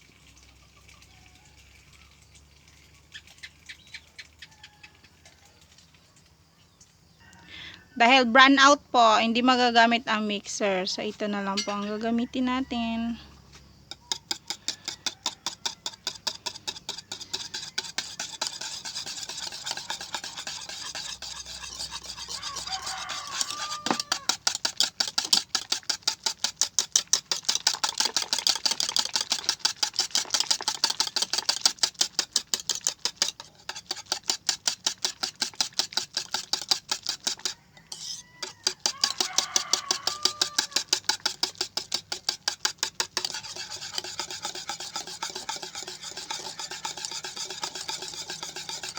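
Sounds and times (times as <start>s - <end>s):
utensil scraping a bowl: 9.0s - 48.9s.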